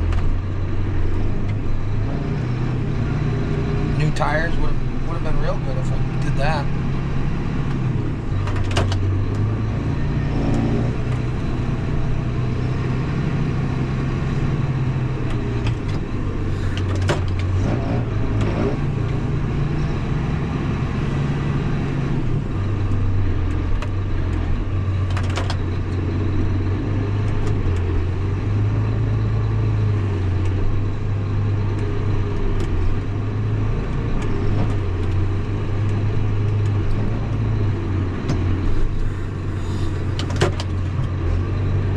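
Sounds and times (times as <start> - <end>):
snow plough engine under load: 0.0 - 41.9.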